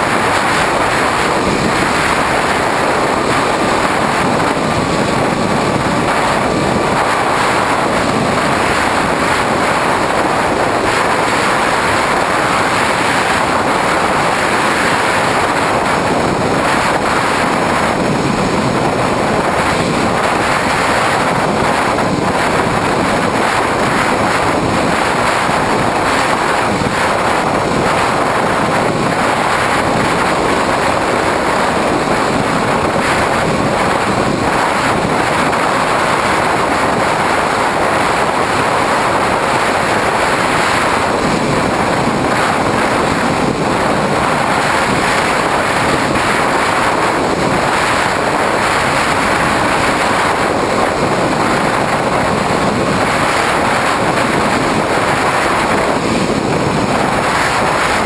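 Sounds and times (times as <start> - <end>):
airflow rushing over camera: 0.0 - 58.0
electric motor and propeller hum: 0.0 - 58.0.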